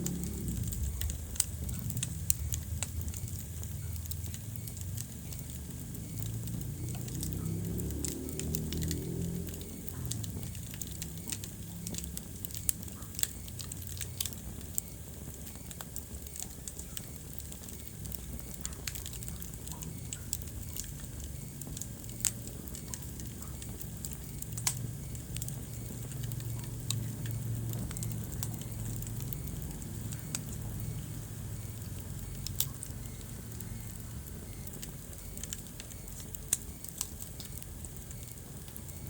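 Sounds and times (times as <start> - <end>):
fire crackling and popping: 0.0 - 39.0
low rumble of flames: 0.0 - 39.0.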